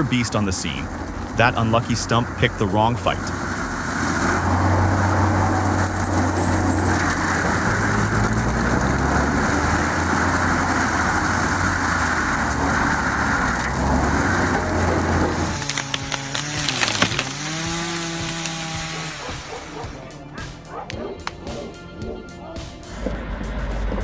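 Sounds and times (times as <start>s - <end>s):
forestry mulcher running: 0.0s - 24.0s.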